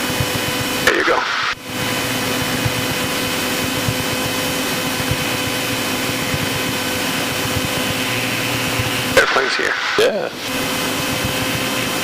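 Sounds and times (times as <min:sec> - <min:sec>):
airplane propeller engine droning: 0:00.0 - 0:12.0.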